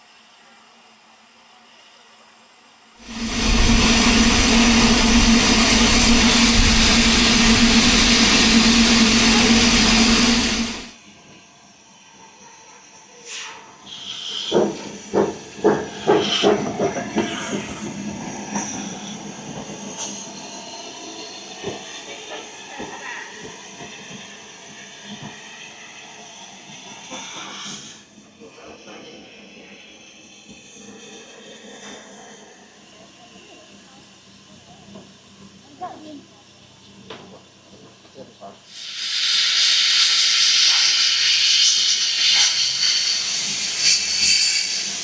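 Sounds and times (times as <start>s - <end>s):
steam locomotive hissing steam: 3.0s - 11.0s, 13.2s - 45.0s.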